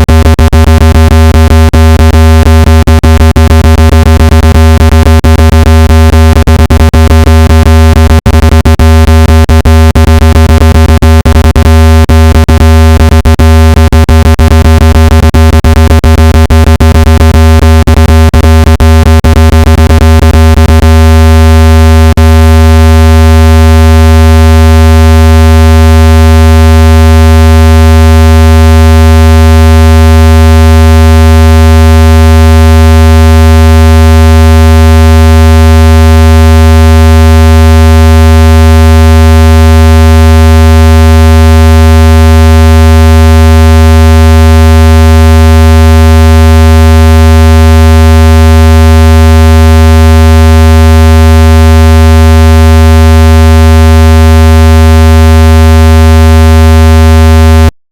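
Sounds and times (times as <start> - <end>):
low buzzing test tone: 0.0 - 50.5.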